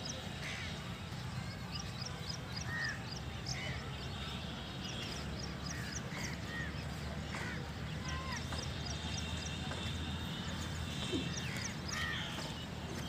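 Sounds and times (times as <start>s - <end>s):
birds calling and chirping: 0.0s - 13.0s.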